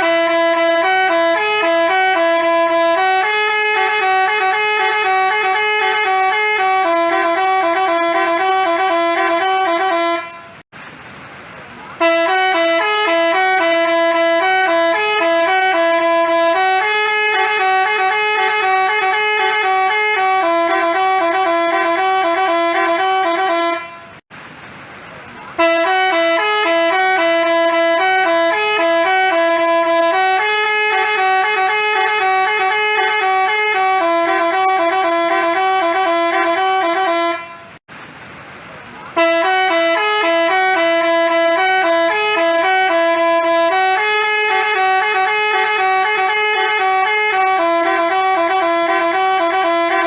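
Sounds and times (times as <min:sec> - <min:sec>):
bus horn playing a tune: 0:00.0 - 0:10.7, 0:11.9 - 0:24.2, 0:25.5 - 0:37.8, 0:39.1 - 0:50.0.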